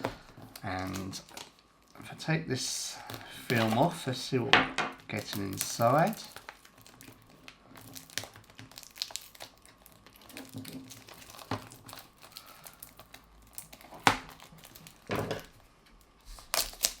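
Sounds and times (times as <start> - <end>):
plastic wrapping film crinkling: 0.0 - 2.2, 2.8 - 17.0.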